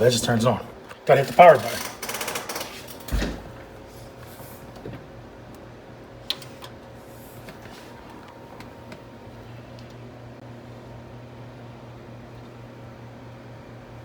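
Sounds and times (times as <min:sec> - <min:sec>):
computer fan hum: 0:00.0 - 0:14.0.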